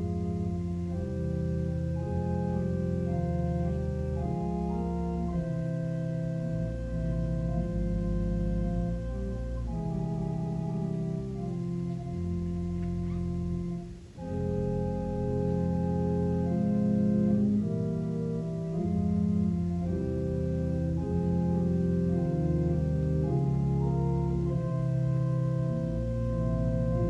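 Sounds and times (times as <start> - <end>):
organ playing slow chords: 0.0 - 27.0.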